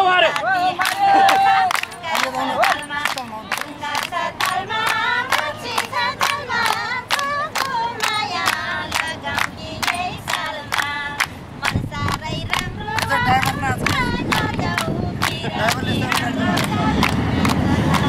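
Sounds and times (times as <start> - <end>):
group singing folk song: 0.0 - 18.0
hand-clapping: 0.2 - 18.0.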